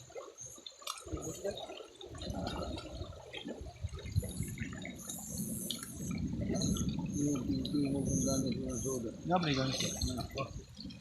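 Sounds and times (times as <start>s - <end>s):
river water sloshing and splashing: 0.0s - 11.0s
small drips and clicks: 0.0s - 11.0s.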